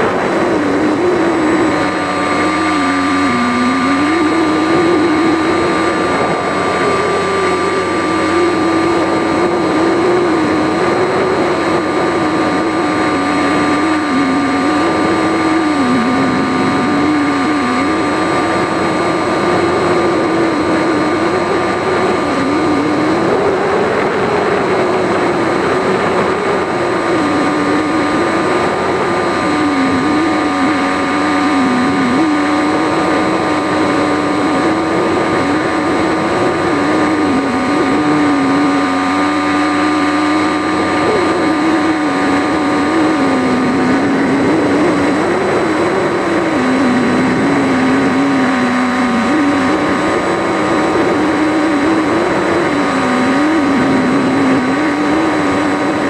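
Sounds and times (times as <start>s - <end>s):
haze of noise: 0.0s - 56.0s
model plane electric motor: 0.0s - 56.0s.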